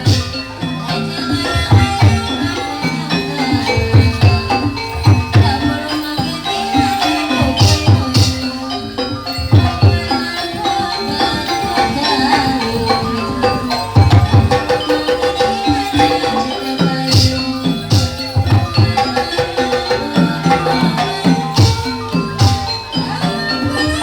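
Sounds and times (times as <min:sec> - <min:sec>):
bronze metallophones ringing: 0:00.0 - 0:24.0.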